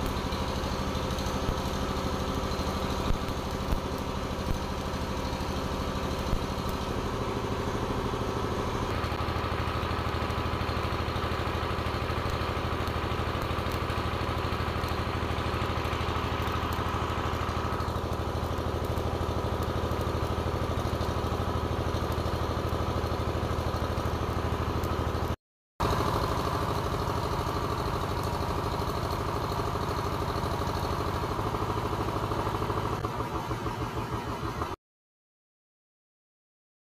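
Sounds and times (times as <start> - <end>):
arc welding crackle: 0.0 - 33.6
small generator engine running: 0.0 - 34.8.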